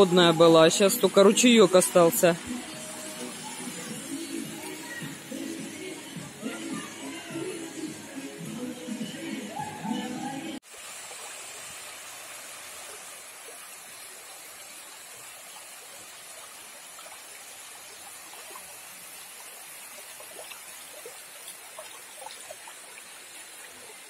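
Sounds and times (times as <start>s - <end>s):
stream trickling over rocks: 0.0s - 8.3s, 10.6s - 24.0s.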